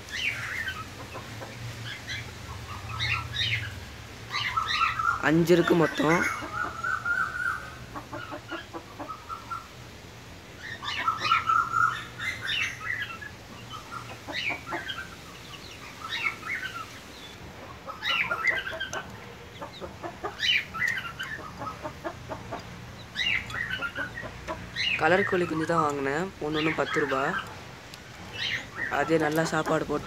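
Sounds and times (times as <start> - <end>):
young chickens cheeping: 0.0 - 30.0.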